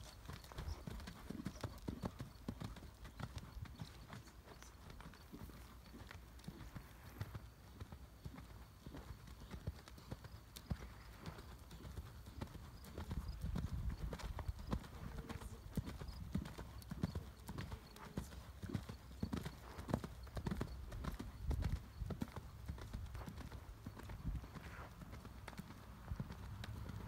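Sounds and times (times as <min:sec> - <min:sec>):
horse hoofbeats on soft dirt: 0:00.0 - 0:27.0.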